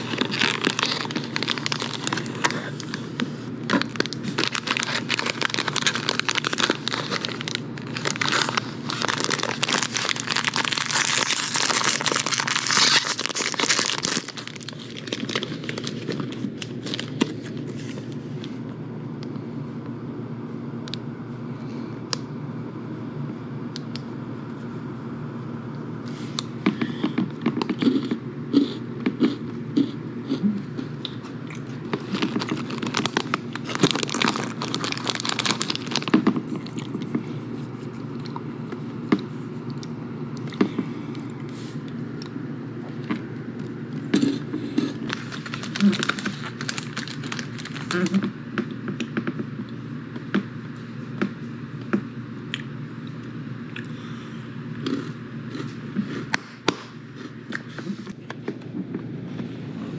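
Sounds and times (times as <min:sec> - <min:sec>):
crunchy snack chewing: 0:00.0 - 0:18.2, 0:26.3 - 0:54.0, 0:54.7 - 0:58.1
low background hum: 0:00.0 - 0:59.9.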